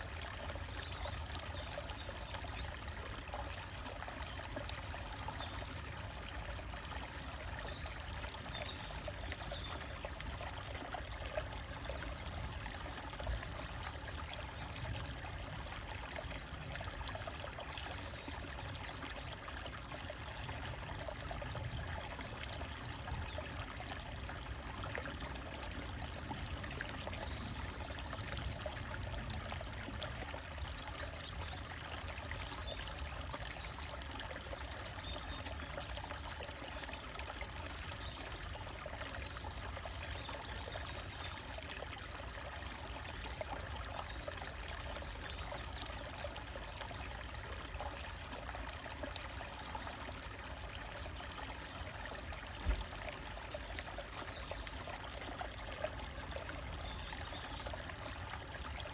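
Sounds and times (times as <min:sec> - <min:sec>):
stream trickling over rocks: 0:00.0 - 0:58.9.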